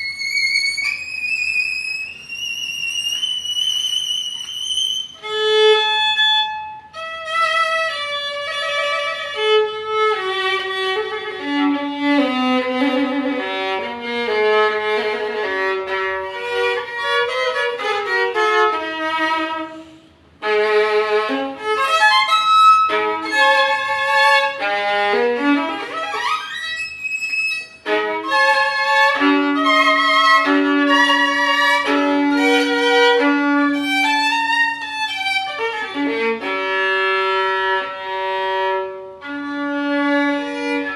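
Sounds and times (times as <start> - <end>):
solo violin played with bow: 0.0 - 40.9.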